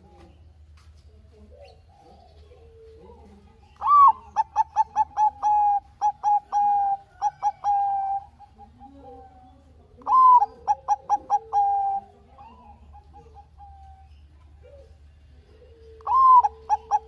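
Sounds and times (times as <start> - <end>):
dove cooing song: 1.2 - 17.0.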